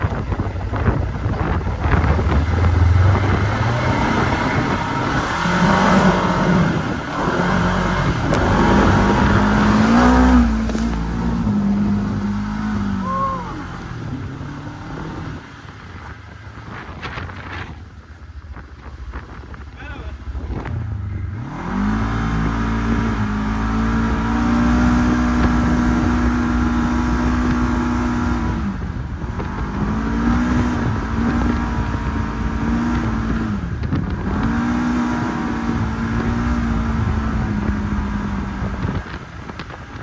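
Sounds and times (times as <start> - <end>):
noisy rush: 0.0 - 40.0
vehicle engine revving: 0.0 - 40.0.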